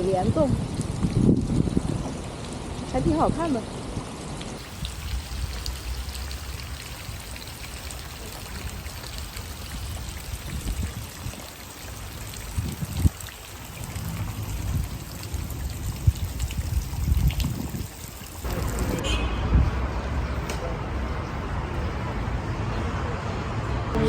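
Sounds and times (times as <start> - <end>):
water splashing cascade: 0.0 - 22.5.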